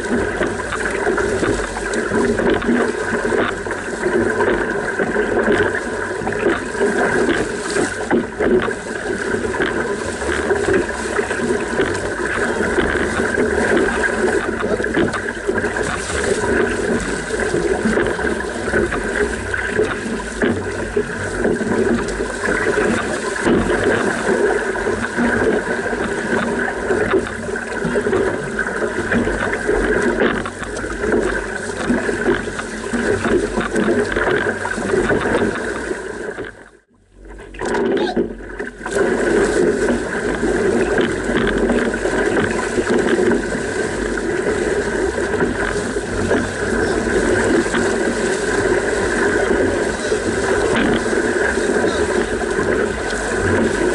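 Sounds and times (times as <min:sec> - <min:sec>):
water rushing along a canoe hull: 0:00.0 - 0:53.9.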